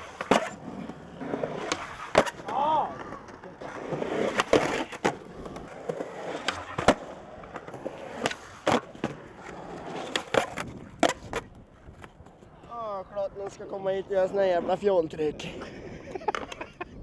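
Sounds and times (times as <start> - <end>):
skateboards clacking on ground: 0.0 - 13.9, 16.2 - 16.7
skateboard wheels rumbling: 0.0 - 17.0.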